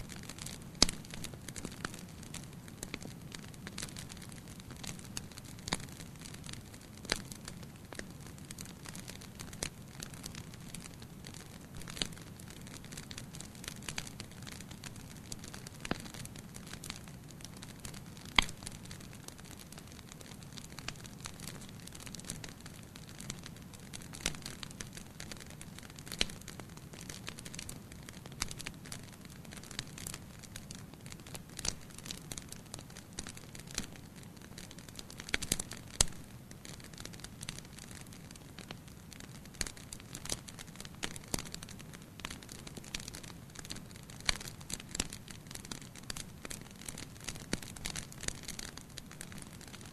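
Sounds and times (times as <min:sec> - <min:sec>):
fire crackling and hissing: 0:00.0 - 0:49.9
sharp pops from fire: 0:00.2 - 0:49.9.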